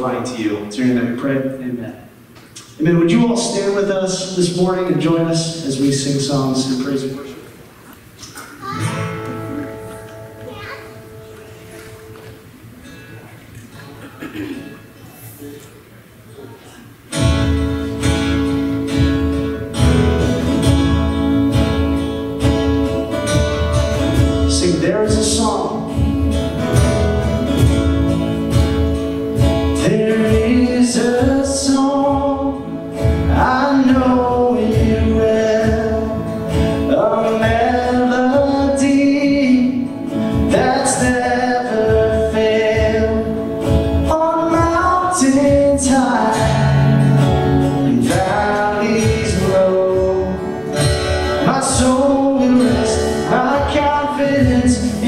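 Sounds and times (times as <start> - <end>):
strummed acoustic guitar: 8.2 - 15.8, 16.4 - 55.0.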